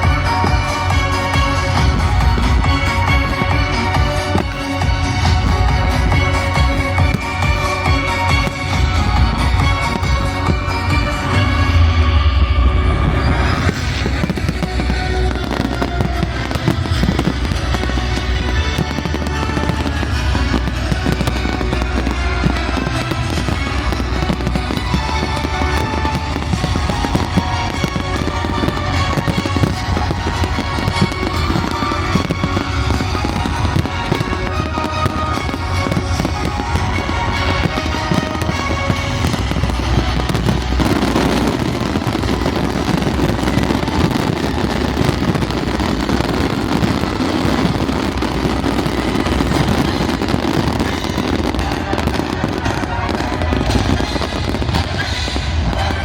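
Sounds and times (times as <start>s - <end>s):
fireworks bangs and crackles: 0.0s - 56.0s
loud show music: 0.0s - 56.0s.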